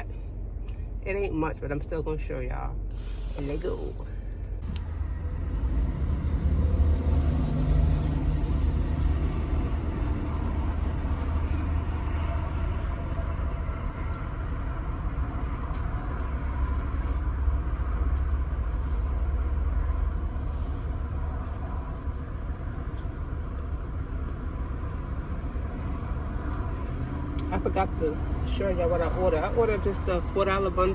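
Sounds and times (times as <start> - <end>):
car engine: 0.0 - 30.9
road noise: 0.0 - 30.9.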